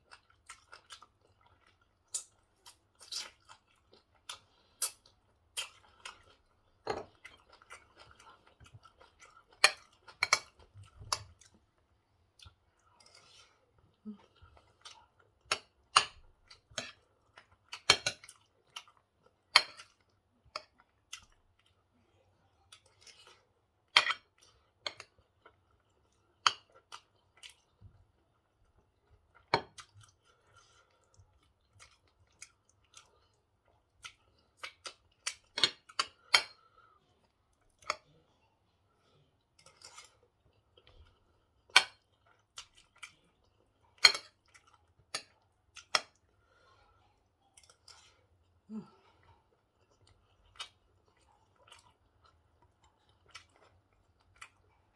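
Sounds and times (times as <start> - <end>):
chewing and mouth smacks: 0.0 - 38.3, 39.1 - 46.4, 47.2 - 54.9.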